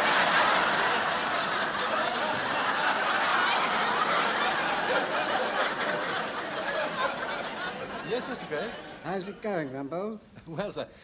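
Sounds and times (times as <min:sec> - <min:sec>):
studio audience laughing: 0:00.0 - 0:09.6.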